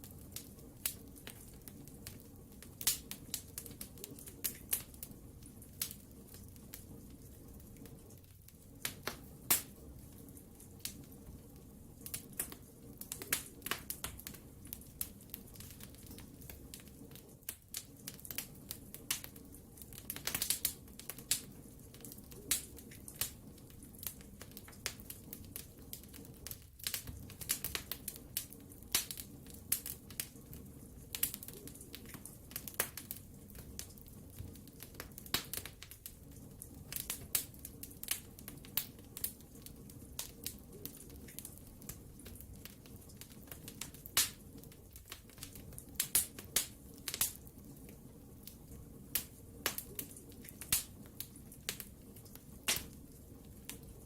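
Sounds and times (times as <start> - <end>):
low steady hiss: 0.0 - 54.0
wood fire crackling and popping: 0.0 - 54.0.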